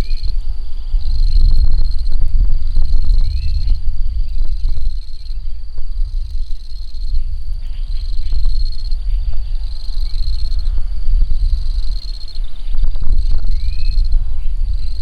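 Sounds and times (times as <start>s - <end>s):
insects trilling: 0.0s - 15.0s
low ribbed insect calls: 0.0s - 15.0s
steady low rumble: 0.0s - 15.0s.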